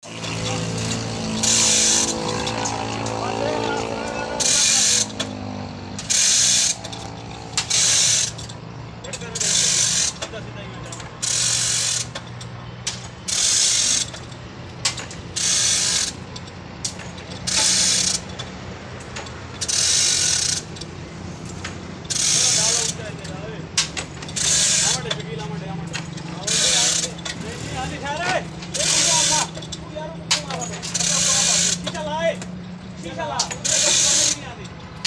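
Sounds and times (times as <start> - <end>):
harsh rasping mechanism strokes: 0.0 - 35.0.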